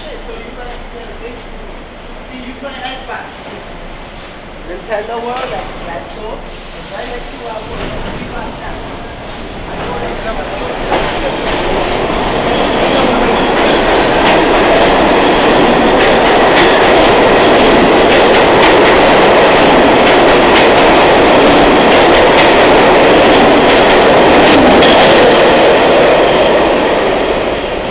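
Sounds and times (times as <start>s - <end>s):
subway train wheels rumbling on rail: 0.0s - 27.9s.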